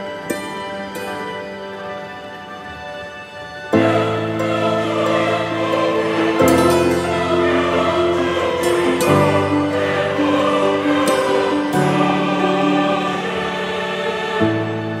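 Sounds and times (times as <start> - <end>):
slow sustained music chords: 0.0 - 15.0.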